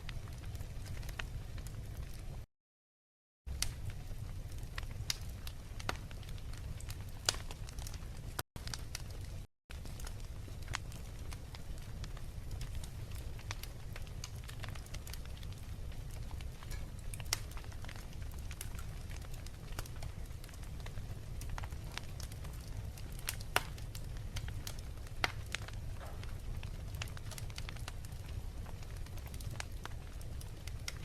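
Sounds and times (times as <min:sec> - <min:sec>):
fire crackling and popping: 0:00.0 - 0:02.5, 0:03.5 - 0:31.0
low rumble of fire: 0:00.0 - 0:02.5, 0:03.5 - 0:31.0.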